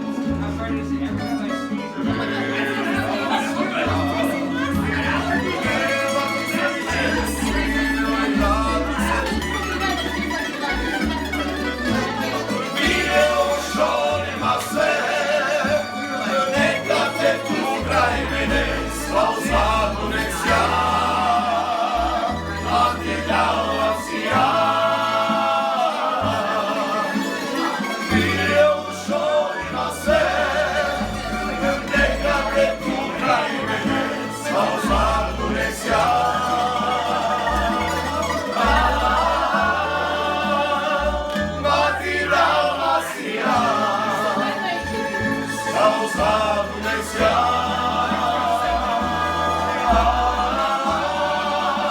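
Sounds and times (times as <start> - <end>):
bass line: 0.0 - 51.9
plucked strings: 0.0 - 51.9
voices singing together: 1.4 - 51.9.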